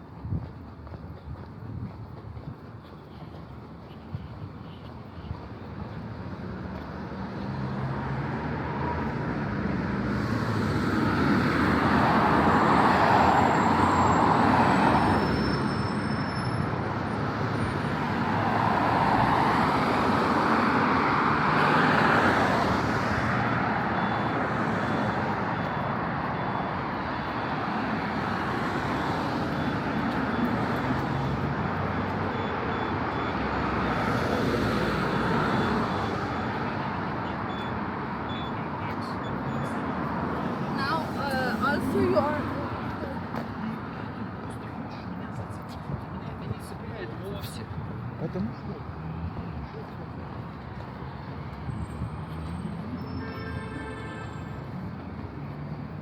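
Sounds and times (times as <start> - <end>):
road traffic hum: 0.0 - 56.0
vehicles passing close by: 0.0 - 56.0.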